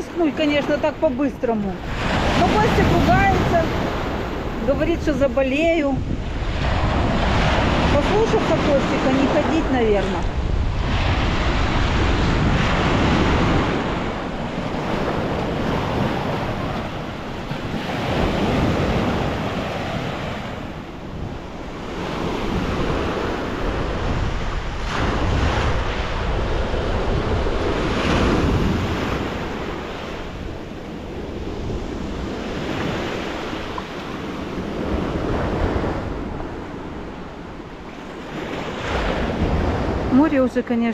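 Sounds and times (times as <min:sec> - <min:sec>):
sea waves washing onto beach: 0:00.0 - 0:40.6
wind buffeting microphone: 0:00.0 - 0:40.9.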